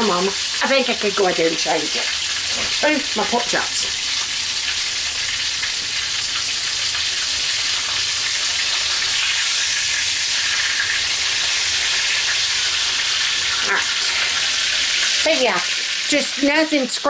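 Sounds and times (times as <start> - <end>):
pork chops sizzling in a pan: 0.0 - 17.0.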